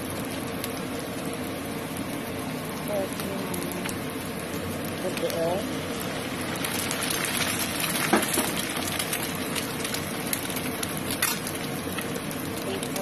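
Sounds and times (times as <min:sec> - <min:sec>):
egg sizzling in hot oil: 0:00.0 - 0:13.0.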